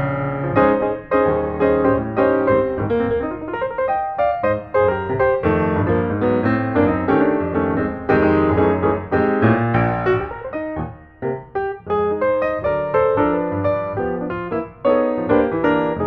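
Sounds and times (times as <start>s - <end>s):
piano piece: 0.0s - 16.0s.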